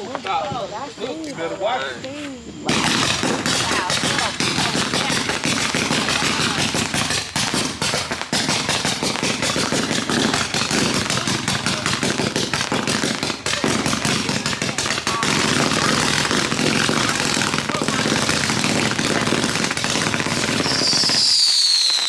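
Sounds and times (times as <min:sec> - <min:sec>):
firecrackers crackling: 0:00.0 - 0:22.0.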